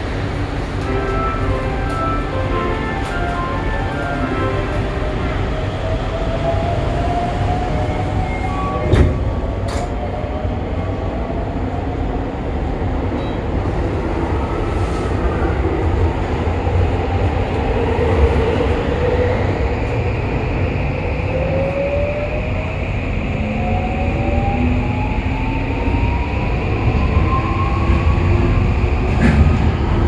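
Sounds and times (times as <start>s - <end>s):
subway car rumble: 0.0s - 30.0s.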